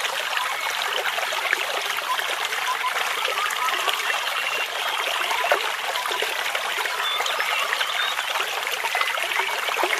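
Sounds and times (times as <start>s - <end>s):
brook babbling over stones: 0.0s - 9.9s.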